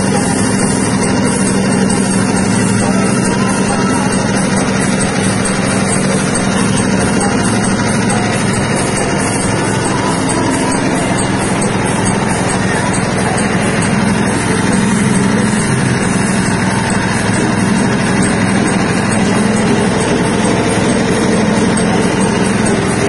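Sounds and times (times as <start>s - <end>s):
machine droning: 0.0s - 23.0s.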